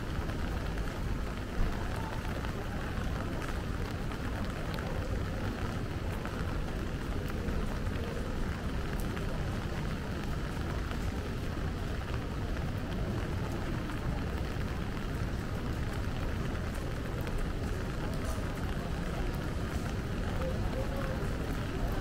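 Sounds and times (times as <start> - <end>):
rain falling: 0.0 - 22.0
raindrops ticking: 0.1 - 22.0.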